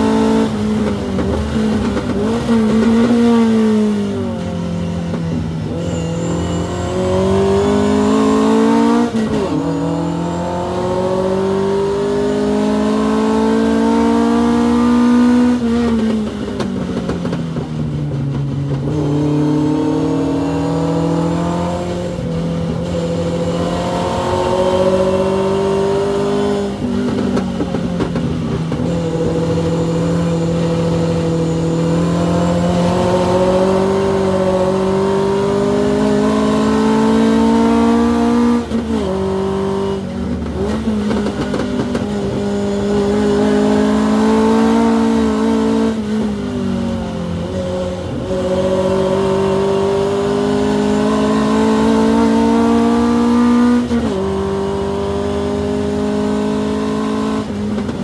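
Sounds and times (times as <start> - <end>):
race car engine pulling hard: 0.0 - 58.0.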